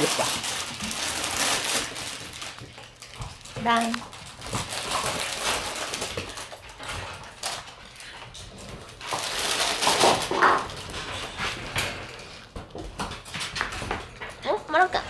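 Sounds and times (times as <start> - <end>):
puppies scuffling on floor: 0.0 - 14.9.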